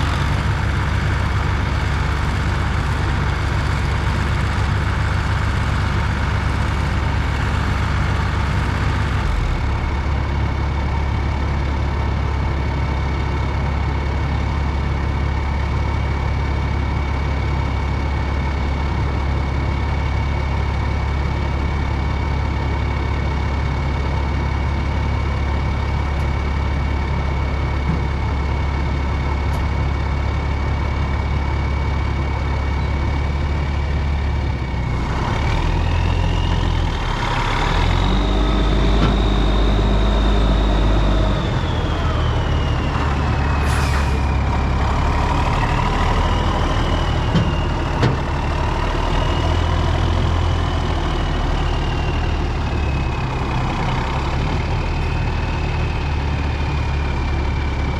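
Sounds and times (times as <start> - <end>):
heavy engine whining: 0.0 - 57.9.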